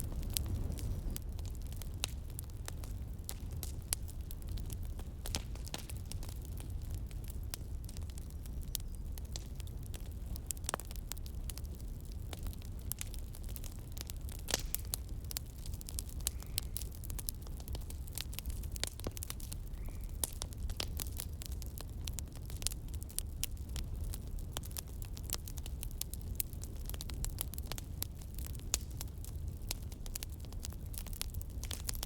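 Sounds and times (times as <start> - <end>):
campfire crackling: 0.0 - 32.0
fire snaps and pops: 0.0 - 32.0.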